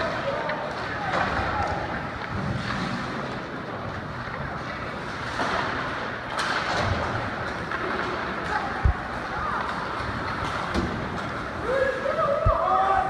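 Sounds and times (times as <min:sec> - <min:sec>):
ice rink background noise: 0:00.0 - 0:13.0.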